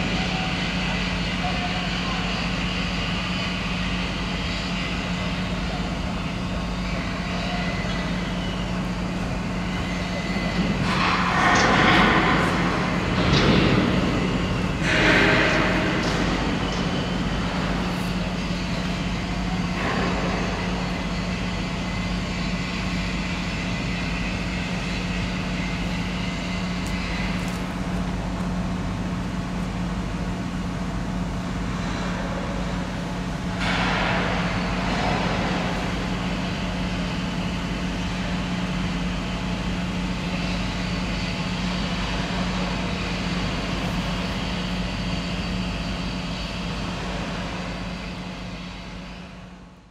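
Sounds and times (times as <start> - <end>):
machinery hum: 0.0 - 49.9.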